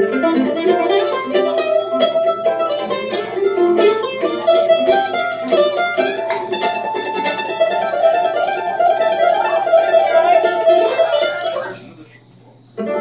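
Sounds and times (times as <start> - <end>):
mandolin picked notes: 0.0 - 13.0.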